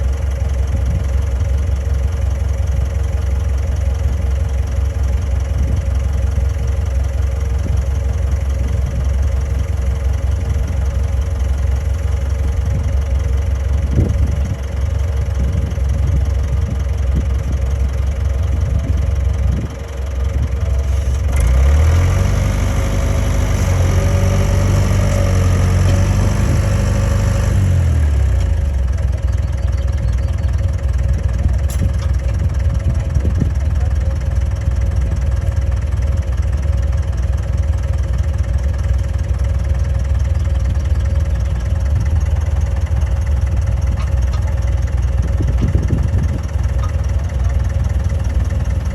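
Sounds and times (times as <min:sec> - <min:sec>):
diesel engine idling and revving: 0:00.0 - 0:48.9.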